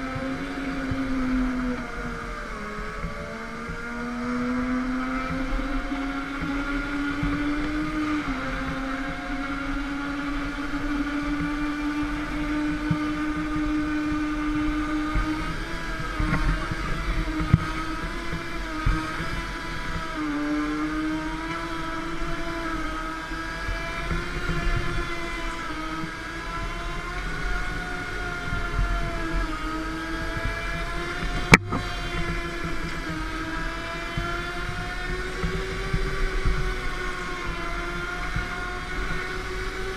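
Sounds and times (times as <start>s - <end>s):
go-kart motor running: 0.0s - 39.9s.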